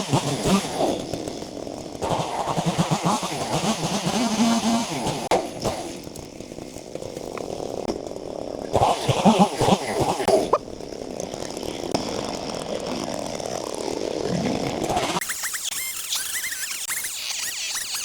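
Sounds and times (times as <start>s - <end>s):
petrol cutting tool revving: 0.0s - 6.3s, 8.7s - 10.6s, 11.4s - 18.0s.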